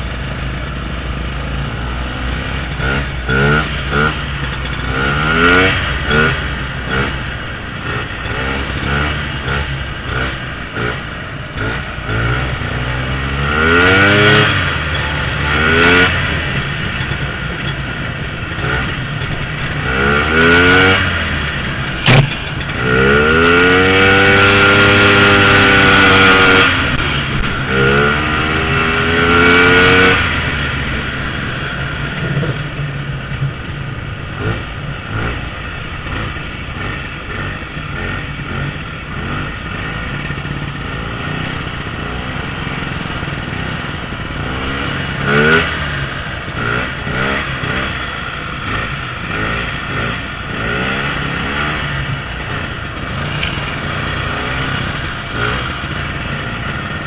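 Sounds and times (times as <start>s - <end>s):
snowmobile engines revving: 0.0s - 57.0s.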